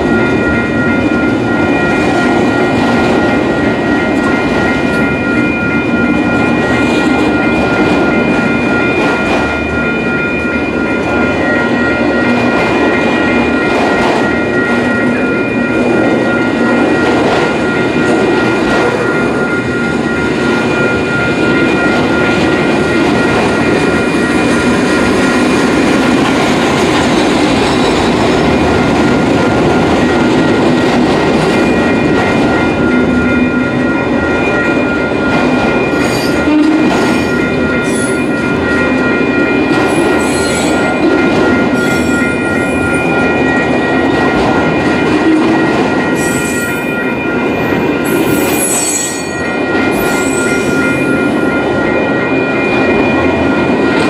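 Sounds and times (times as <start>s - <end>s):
steady high-pitched tone: 0.0s - 54.0s
train wheels rumbling on rails: 0.0s - 54.0s.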